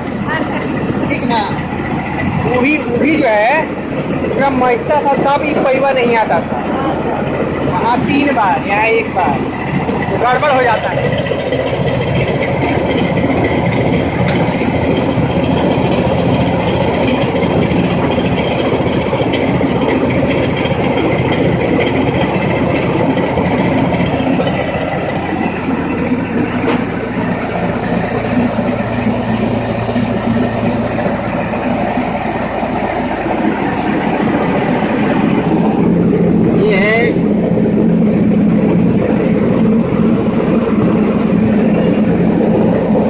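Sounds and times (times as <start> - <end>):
rice mill clatter and rumble: 0.0 - 43.0
tractor engine: 0.0 - 43.0.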